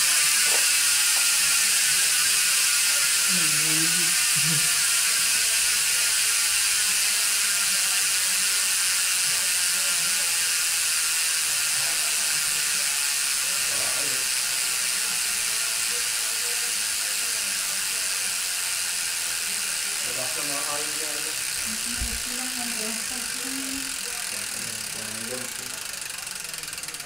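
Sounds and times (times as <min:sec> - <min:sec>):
bicycle freehub buzzing: 0:00.0 - 0:27.0.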